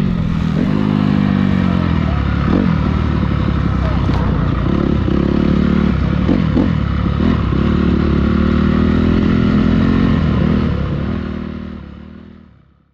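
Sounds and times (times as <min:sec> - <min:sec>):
dirt bike engine running: 0:00.0 - 0:12.4.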